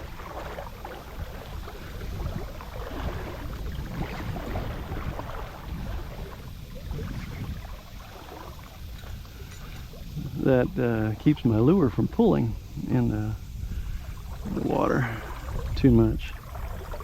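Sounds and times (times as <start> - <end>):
water lapping against kayak: 0.0 - 17.0
wind buffeting microphone: 0.0 - 17.0.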